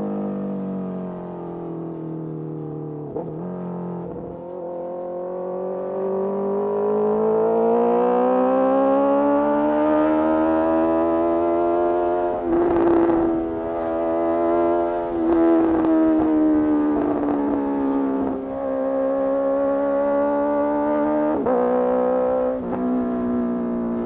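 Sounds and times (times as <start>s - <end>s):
motorcycle engine revving: 3.0s - 24.0s.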